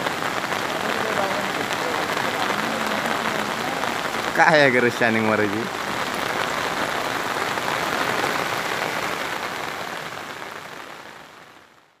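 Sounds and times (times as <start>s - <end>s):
heavy rain hiss: 0.0s - 11.9s.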